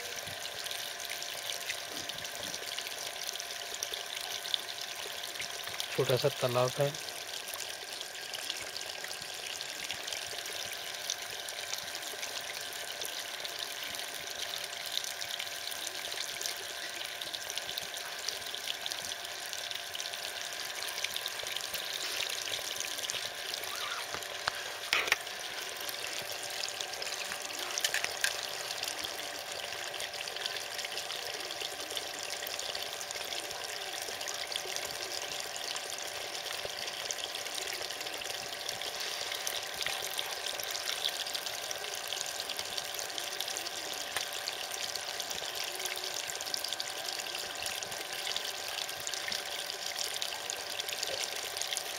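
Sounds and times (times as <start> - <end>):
water trickling: 0.0 - 51.9.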